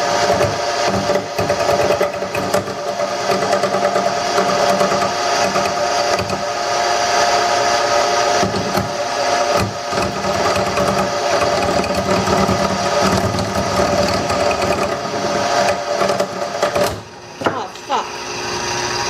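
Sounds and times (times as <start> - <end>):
gouge scraping spinning wood: 0.0 - 17.2
wood lathe motor hum: 0.0 - 19.0.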